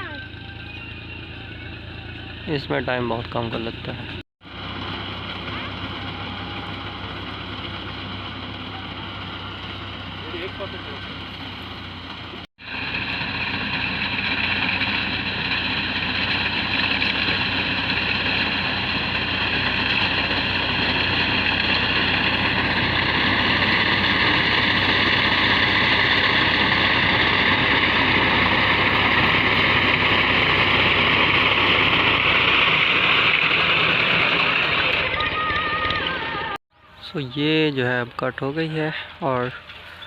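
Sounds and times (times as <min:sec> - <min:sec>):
harvester engine running: 0:00.0 - 0:40.0.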